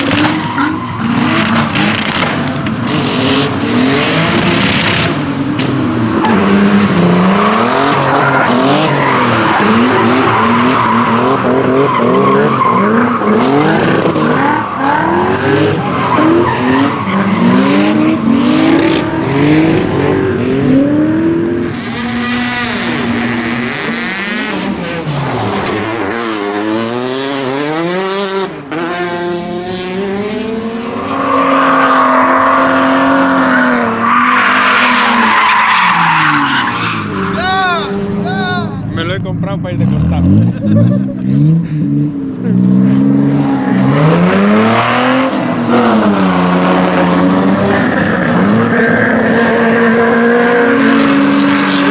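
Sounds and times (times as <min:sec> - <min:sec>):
rally car engine revving: 0:00.0 - 0:51.9.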